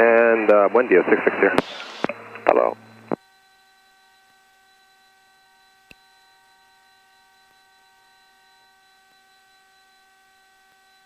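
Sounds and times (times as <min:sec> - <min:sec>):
thin whine tones: 0:00.0 - 0:11.0.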